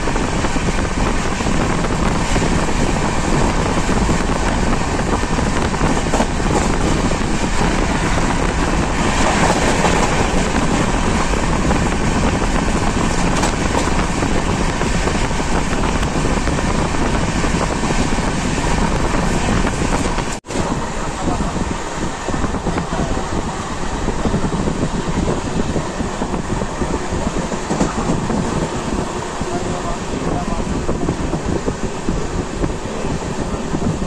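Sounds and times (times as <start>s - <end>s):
passenger train running: 0.0s - 34.0s
wind buffeting microphone: 0.0s - 34.0s.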